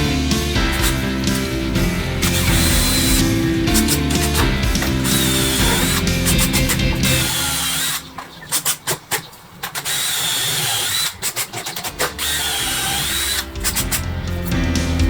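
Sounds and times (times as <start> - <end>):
power drill whining: 0.5 - 14.6.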